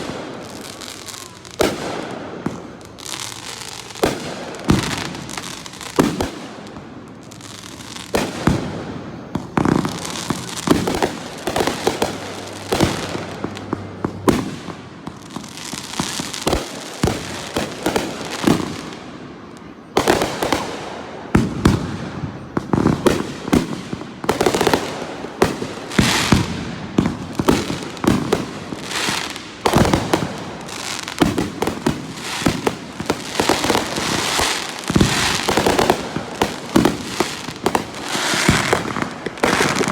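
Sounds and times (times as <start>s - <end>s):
fireworks booming: 0.0s - 39.9s
fireworks crackling: 0.0s - 39.9s.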